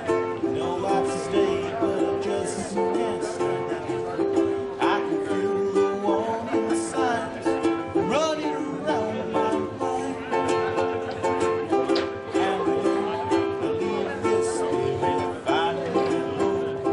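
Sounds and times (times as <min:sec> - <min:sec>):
acoustic band strumming strings: 0:00.0 - 0:16.9.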